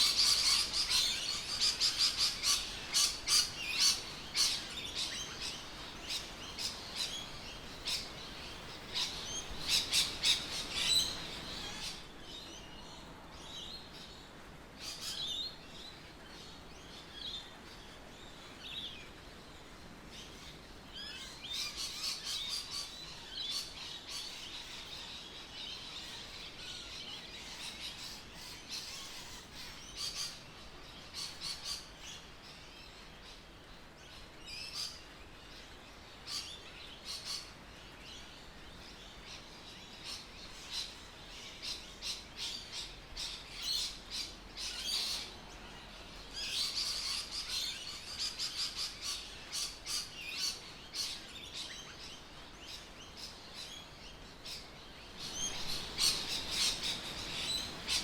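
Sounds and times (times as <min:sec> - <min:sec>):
birds chirping: 0:00.0 - 0:14.0, 0:20.1 - 0:58.0
faint steady hiss: 0:00.0 - 0:58.0.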